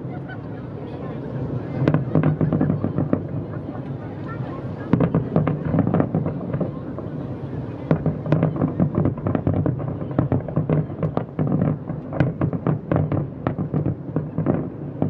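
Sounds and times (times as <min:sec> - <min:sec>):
distant fireworks bangs and crackles: 0:00.0 - 0:15.0
low background noise: 0:00.0 - 0:15.0.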